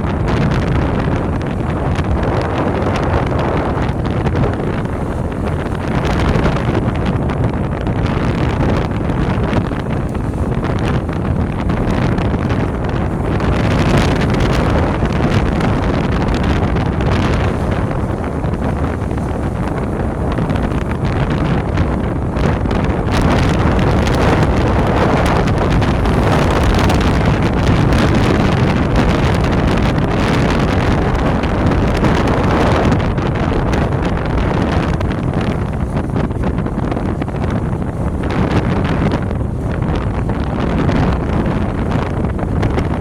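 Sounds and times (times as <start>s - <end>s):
moving vehicle rumble: 0.0s - 43.0s
wind buffeting microphone: 0.0s - 43.0s.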